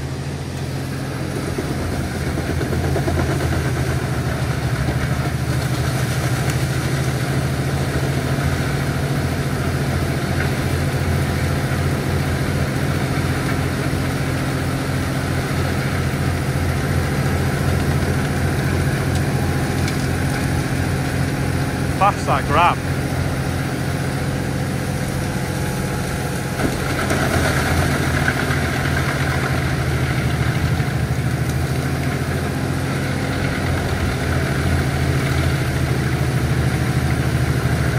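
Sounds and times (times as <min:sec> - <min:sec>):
tractor engine running under load: 0:00.0 - 0:37.9.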